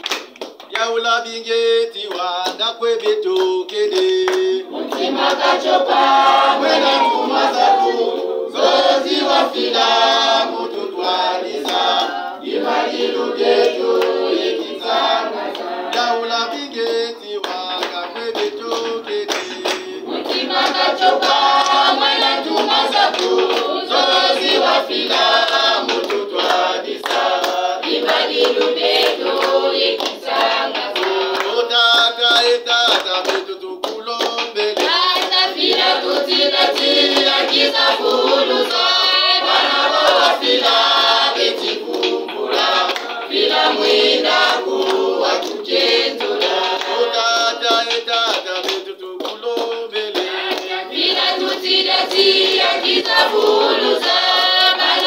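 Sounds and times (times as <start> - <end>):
hands clapping: 0.0 - 55.0
group singing: 0.8 - 55.0.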